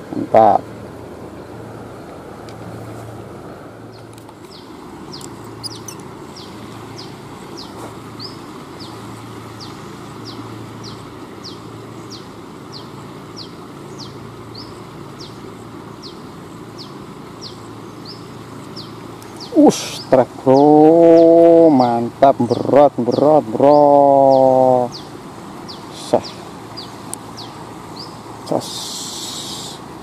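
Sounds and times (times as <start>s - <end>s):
river flowing: 0.0s - 30.0s.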